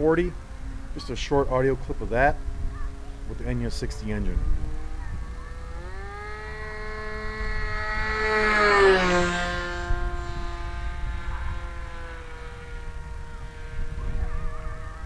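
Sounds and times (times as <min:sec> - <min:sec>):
model plane engine whine flyby: 0:00.0 - 0:15.0.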